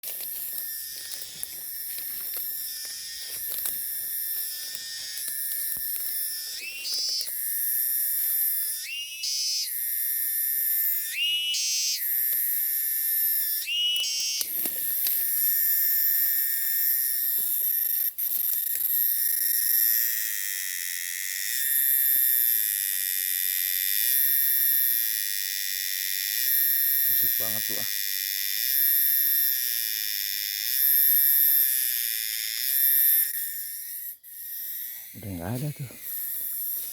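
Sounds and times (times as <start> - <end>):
cicada droning: 0.0 - 36.9.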